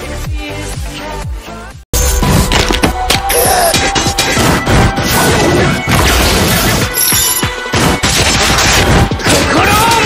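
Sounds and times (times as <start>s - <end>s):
loud music: 0.0s - 10.0s.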